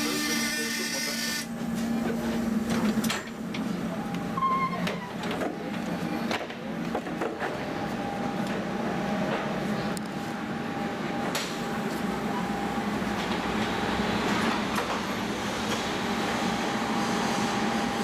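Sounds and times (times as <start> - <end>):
tram low hum: 1.5 - 18.0.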